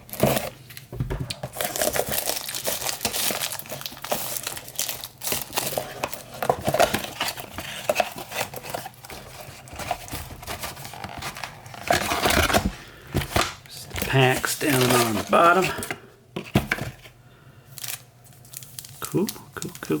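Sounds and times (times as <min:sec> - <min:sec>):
packaging crinkling and tearing: 0:00.0 - 0:15.9, 0:17.7 - 0:20.0.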